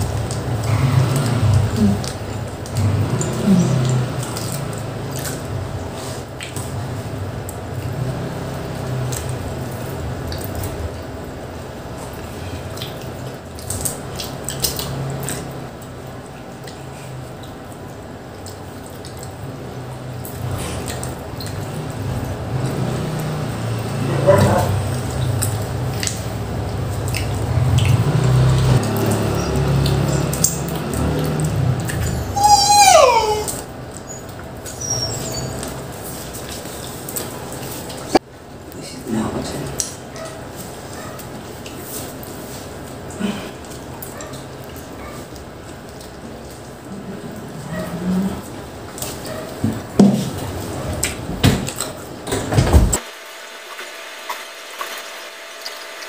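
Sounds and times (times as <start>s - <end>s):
people chewing: 0.0s - 52.1s, 53.7s - 56.0s.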